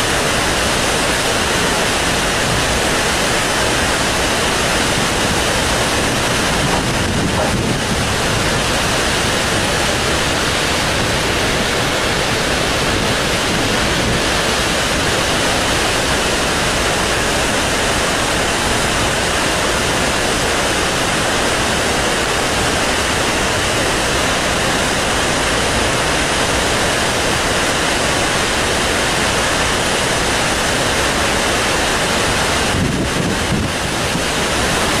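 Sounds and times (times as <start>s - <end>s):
rushing water from dam: 0.0s - 35.0s.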